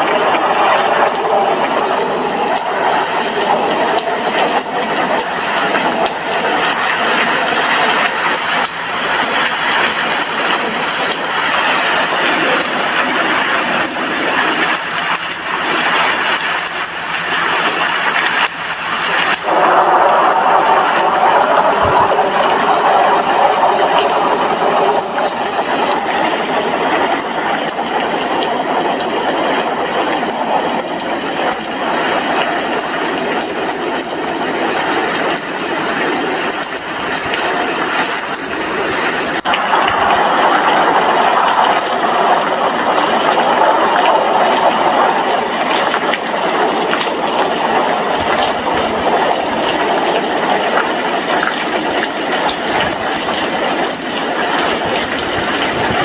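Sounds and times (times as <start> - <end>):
rain pattering at a window: 0.0 - 56.0.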